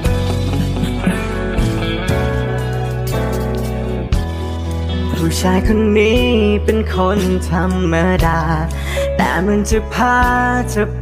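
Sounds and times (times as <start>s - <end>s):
guitar and bass over beat: 0.0s - 11.0s.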